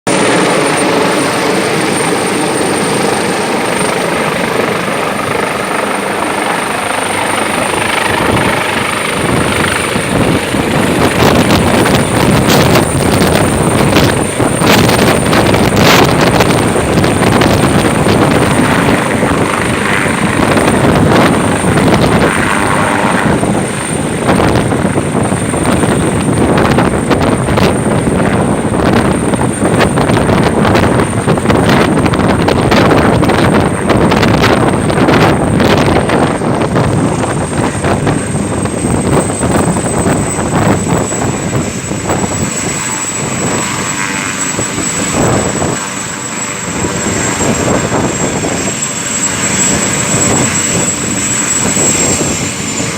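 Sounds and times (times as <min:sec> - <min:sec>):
helicopter turbine and rotor: 0:00.1 - 0:52.9
steady high whine: 0:00.1 - 0:52.9.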